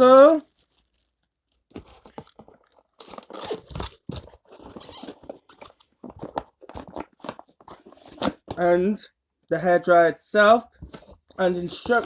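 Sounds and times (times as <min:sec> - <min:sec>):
plastic and cardboard crinkling: 0:00.0 - 0:08.6, 0:10.7 - 0:12.0.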